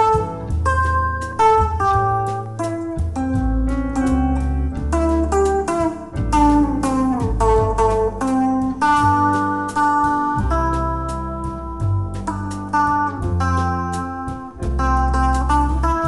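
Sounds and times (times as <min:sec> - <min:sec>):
slow bossa nova guitar music: 0:00.0 - 0:16.0.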